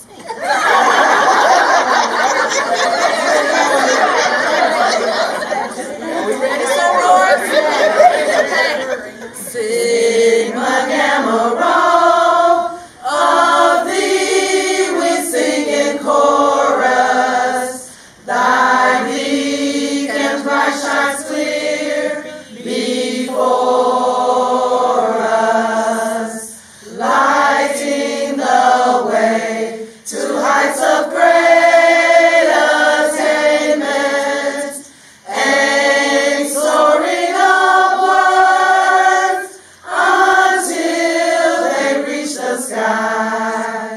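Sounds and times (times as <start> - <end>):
women singing unaccompanied: 3.1 - 43.9.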